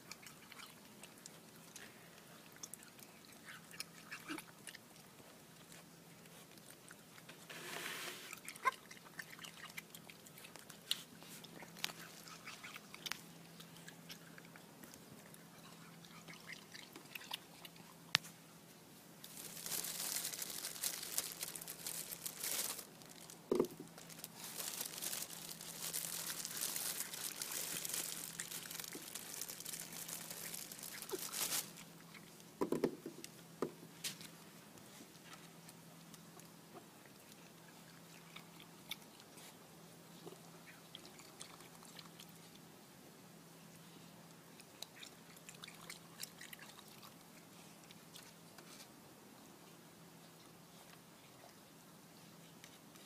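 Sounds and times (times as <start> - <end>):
raccoon chewing grapes: 0.0 - 53.0.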